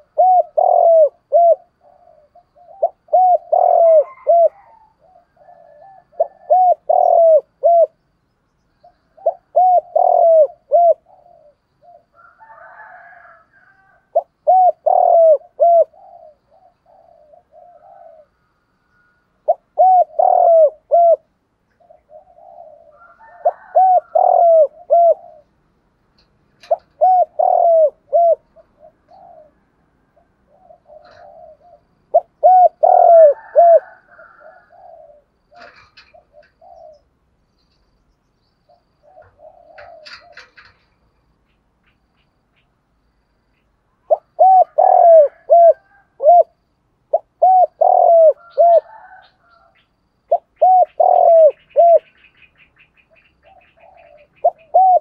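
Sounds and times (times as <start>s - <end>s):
dove cooing: 0.0s - 8.0s, 8.8s - 37.2s, 38.7s - 41.0s, 44.0s - 55.0s.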